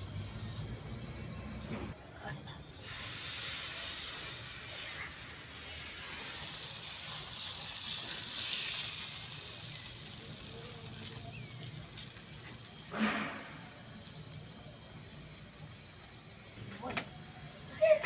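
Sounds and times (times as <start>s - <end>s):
batter sizzling on hot iron: 2.6s - 18.0s.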